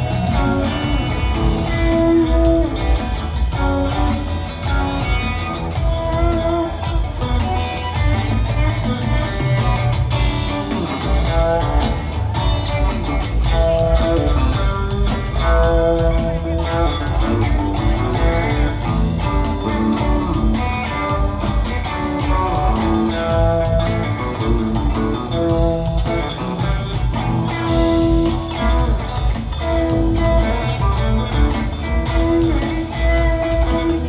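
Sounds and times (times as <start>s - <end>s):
bass guitar: 0.0s - 34.0s
drum kit groove: 0.0s - 34.0s
electric guitar held notes: 0.0s - 34.0s.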